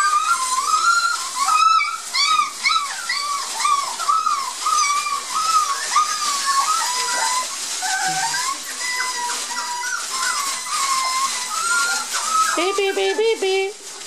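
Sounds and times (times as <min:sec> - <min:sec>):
puppies whining: 0:00.0 - 0:14.0
rustle of shredded newspaper: 0:00.0 - 0:14.0.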